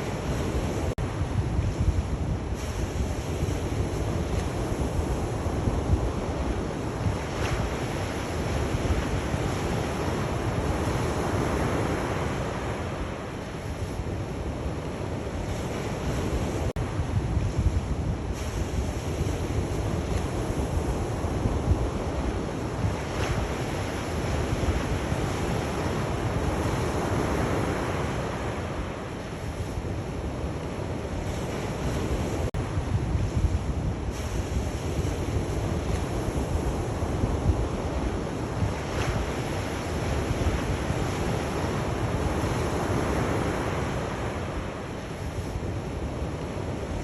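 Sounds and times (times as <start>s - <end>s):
sea waves breaking on shore: 0.0s - 47.0s
wind rumble on microphone: 0.0s - 47.0s.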